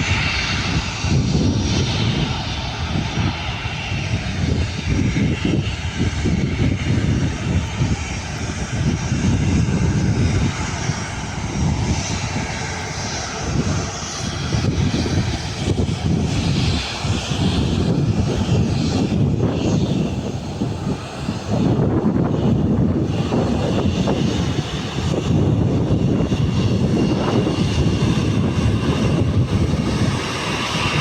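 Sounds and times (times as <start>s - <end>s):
jet taking off: 0.0s - 31.0s.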